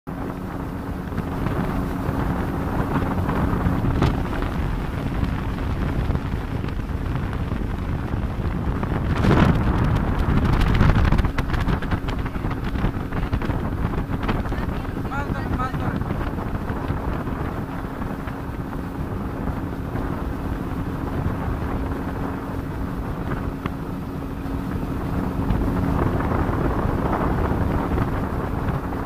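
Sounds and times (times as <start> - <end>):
boat engine hum: 0.1 - 29.0
water rushing along hull: 0.1 - 29.0
wind buffeting microphone: 0.1 - 29.0.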